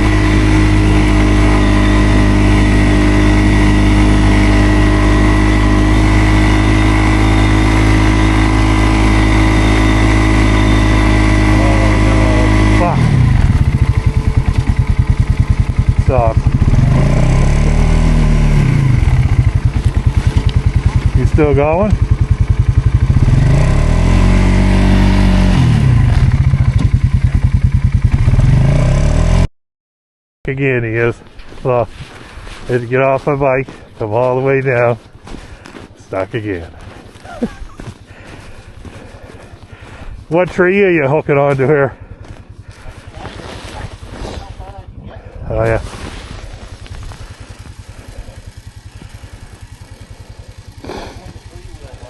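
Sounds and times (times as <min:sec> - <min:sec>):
atv engine running: 0:00.0 - 0:29.5, 0:30.6 - 0:52.0.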